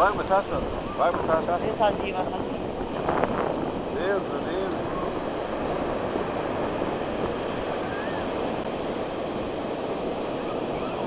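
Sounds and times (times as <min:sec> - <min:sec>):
ocean surf breaking on shore: 0:00.0 - 0:11.0.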